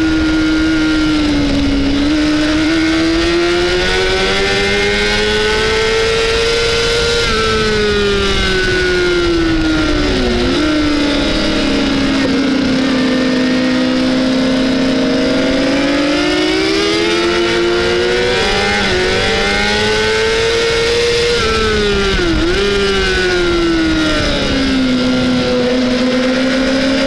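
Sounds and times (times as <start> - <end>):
motorcycle engine revving: 0.0 - 27.0
wind rush: 0.0 - 27.0.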